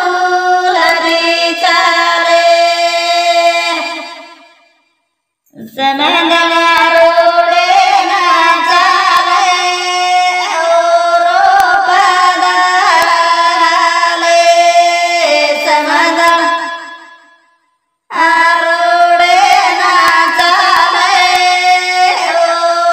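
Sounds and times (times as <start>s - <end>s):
woman singing: 0.0s - 4.3s, 5.5s - 17.0s, 18.1s - 22.9s.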